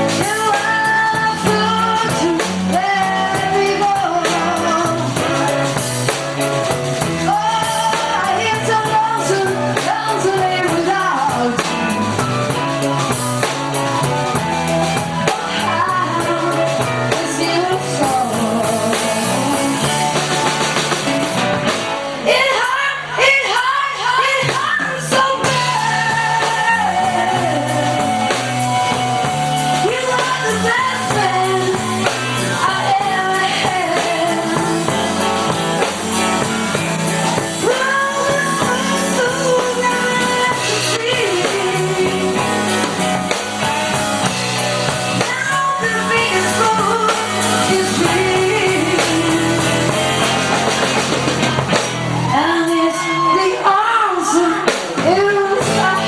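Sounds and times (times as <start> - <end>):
woman singing: 0.0 - 5.8, 7.2 - 12.6, 15.2 - 20.2, 22.2 - 43.3, 45.1 - 50.3, 52.2 - 56.0
bass: 0.0 - 56.0
drums: 0.0 - 56.0.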